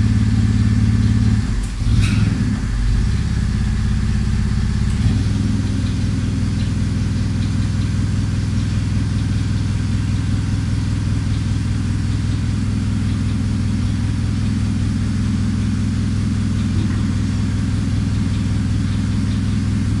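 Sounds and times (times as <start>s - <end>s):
forklift engine idling: 0.0s - 20.0s.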